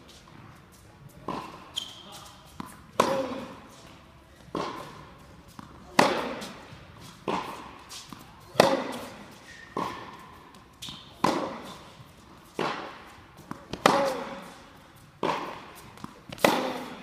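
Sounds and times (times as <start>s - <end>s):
racquets hitting tennis ball: 0.2s - 17.0s
tennis ball bouncing: 1.2s - 17.0s.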